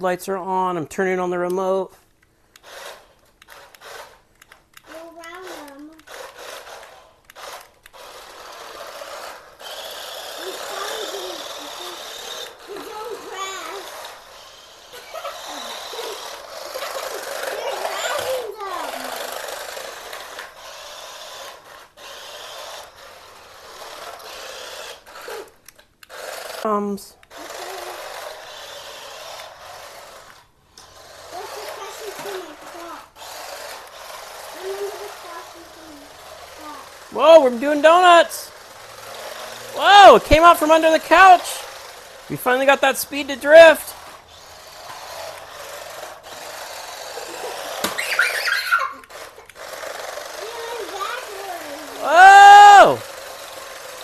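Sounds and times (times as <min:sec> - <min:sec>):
toy car motor whirring: 0:00.4 - 0:54.0
tyres sliding on wooden floor: 0:04.8 - 0:54.0.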